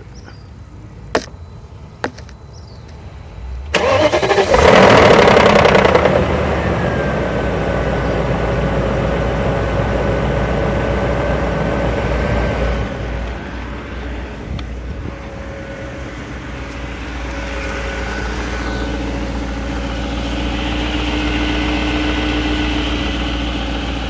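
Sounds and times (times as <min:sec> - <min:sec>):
constant whine: 0:00.0 - 0:24.0
car engine starting and idling: 0:00.7 - 0:24.0.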